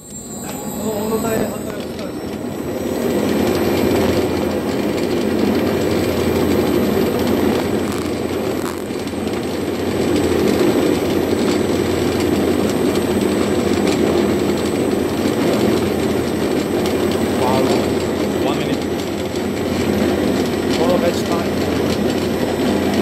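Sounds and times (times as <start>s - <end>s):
cutter-mixer running: 0.0s - 23.0s.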